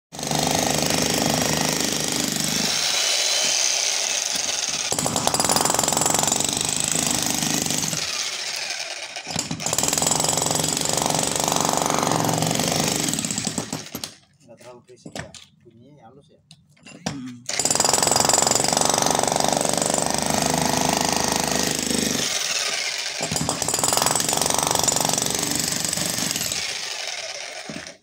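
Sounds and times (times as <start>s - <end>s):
demolition hammer chiselling concrete: 0.2s - 14.2s, 17.0s - 28.0s.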